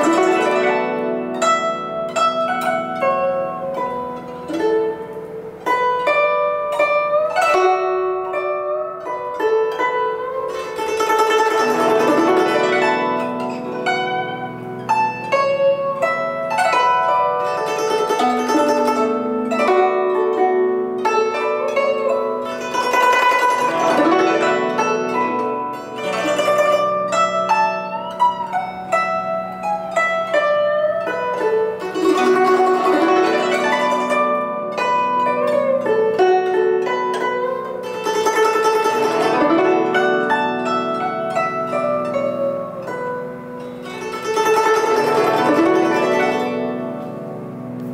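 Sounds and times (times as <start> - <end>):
zither plucked melody: 0.0 - 47.9.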